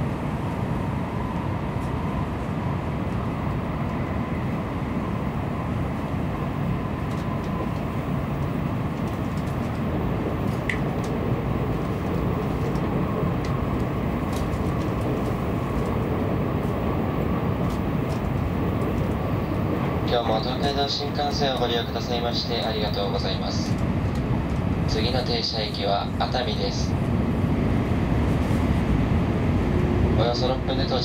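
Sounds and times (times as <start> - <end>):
train rumble with faint whine: 0.0 - 31.0.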